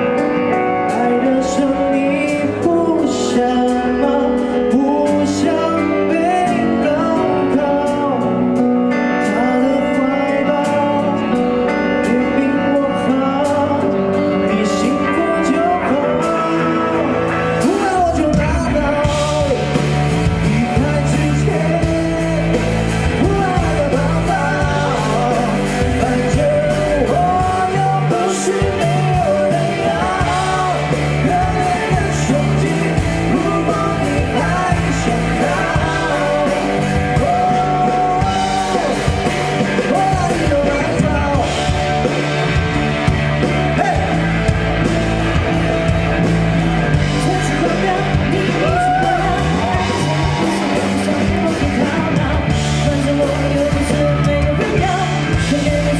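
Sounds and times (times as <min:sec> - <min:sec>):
man singing pop song: 0:00.0 - 0:42.2, 0:43.6 - 0:44.3, 0:46.9 - 0:55.9
band playing with steady beat: 0:00.0 - 0:55.9.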